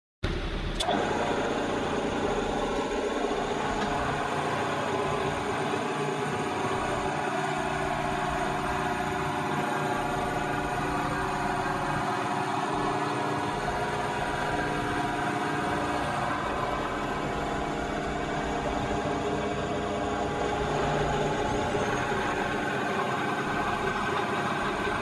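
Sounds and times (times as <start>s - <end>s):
milling machine humming: 0.3s - 25.0s.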